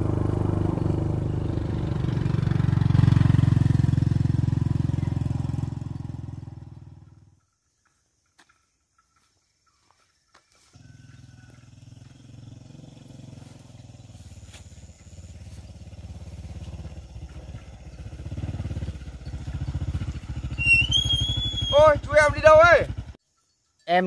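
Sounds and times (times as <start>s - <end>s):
motorbike engine running: 0.0s - 7.3s, 10.7s - 23.2s.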